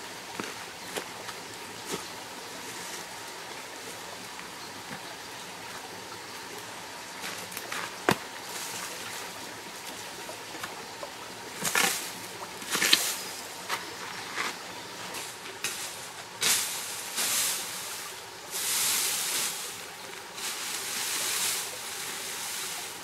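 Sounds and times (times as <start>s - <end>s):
dry bamboo crackling rustle: 0.0s - 23.0s
stream running over rocks: 0.0s - 23.0s.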